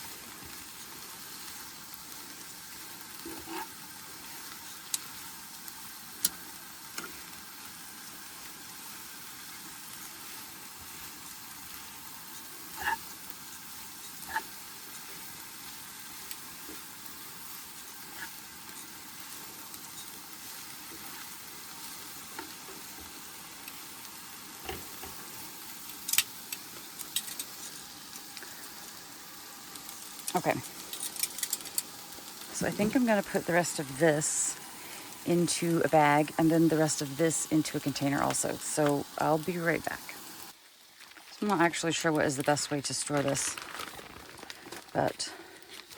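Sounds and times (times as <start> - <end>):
vegetables sizzling in a pan: 0.0 - 45.9.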